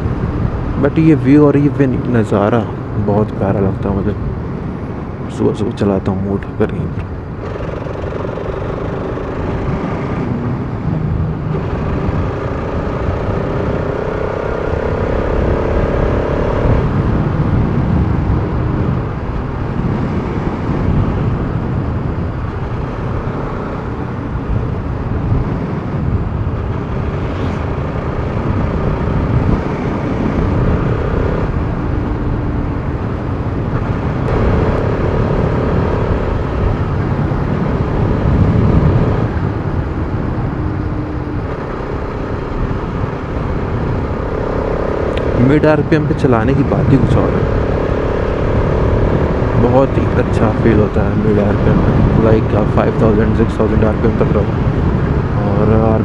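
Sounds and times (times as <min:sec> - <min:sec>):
motorcycle engine while riding: 0:00.0 - 0:56.0
wind rumble on microphone: 0:00.0 - 0:56.0.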